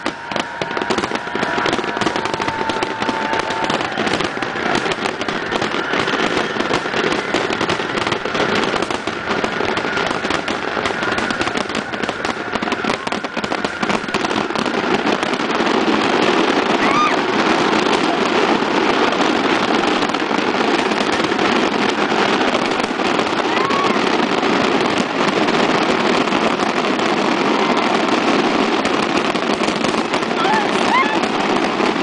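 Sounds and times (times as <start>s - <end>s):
fireworks bursting and crackling: 0.0s - 32.0s.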